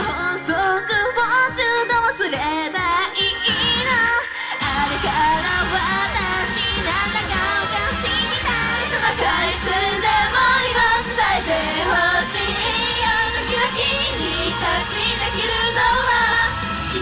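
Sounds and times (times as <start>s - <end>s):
woman singing pop over backing track: 0.0s - 17.0s.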